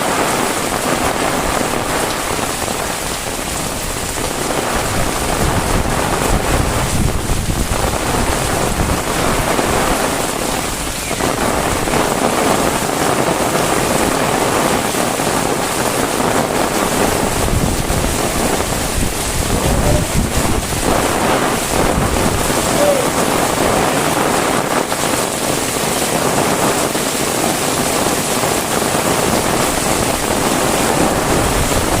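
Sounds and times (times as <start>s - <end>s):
heavy rain falling: 0.0s - 32.0s
wind buffeting the microphone: 0.0s - 32.0s.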